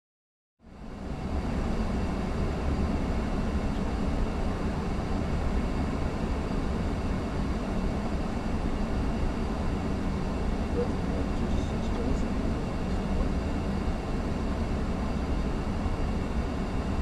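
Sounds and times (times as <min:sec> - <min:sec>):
faint steady hums: 0:00.7 - 0:17.0
deep aircraft cabin rumble: 0:00.8 - 0:17.0.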